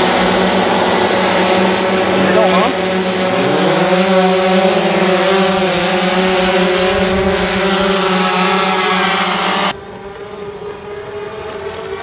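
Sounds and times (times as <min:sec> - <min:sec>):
drone propellers whirring: 0:00.0 - 0:12.0.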